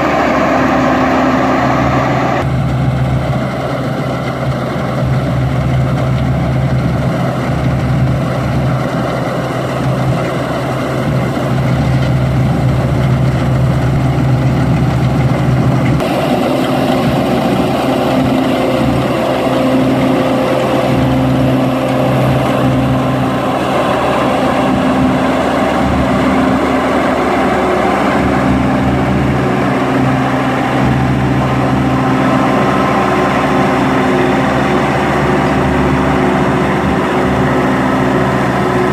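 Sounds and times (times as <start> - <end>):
harvester engine running: 0.0 - 38.9.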